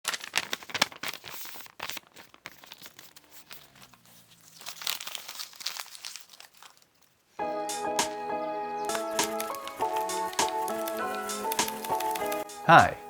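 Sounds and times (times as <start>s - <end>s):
crinkling rustling: 0.0s - 7.4s, 8.9s - 12.4s.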